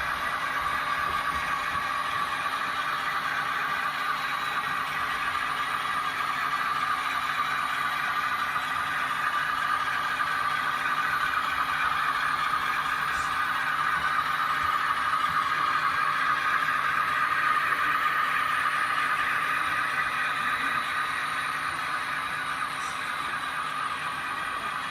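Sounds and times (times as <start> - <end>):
model train motors whirring: 0.0 - 24.9
wheels clattering on track: 0.0 - 24.9.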